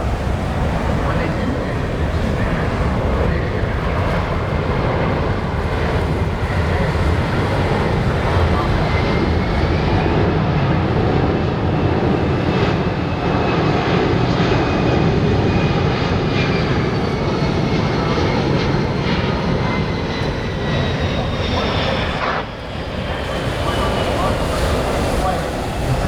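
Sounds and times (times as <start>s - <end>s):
jet aircraft flying past: 0.0s - 26.0s.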